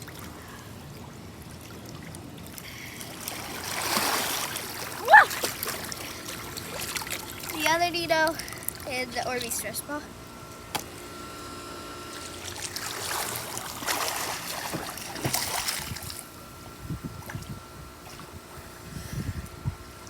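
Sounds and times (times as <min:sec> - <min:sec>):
pool water splashing: 0:00.0 - 0:18.8.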